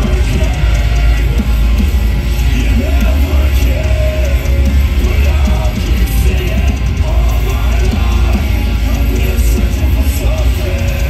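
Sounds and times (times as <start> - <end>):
distorted electric guitars: 0.0 - 11.0
drum kit: 0.0 - 11.0
metal band playing live: 0.0 - 11.0.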